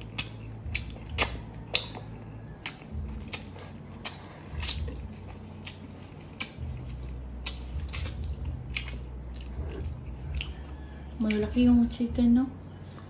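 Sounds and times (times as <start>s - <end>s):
mouth chewing food: 0.0s - 12.0s
low steady hum: 0.0s - 13.0s.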